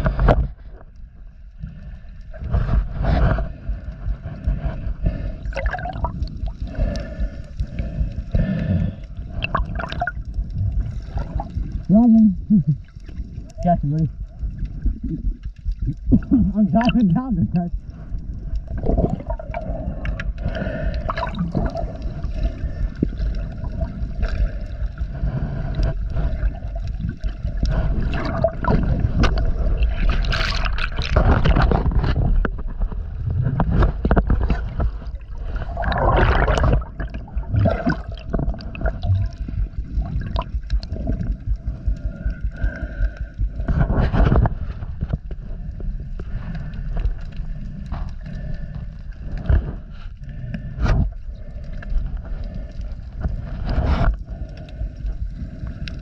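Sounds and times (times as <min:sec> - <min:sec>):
underwater gurgling and rushing: 0:00.0 - 0:56.0.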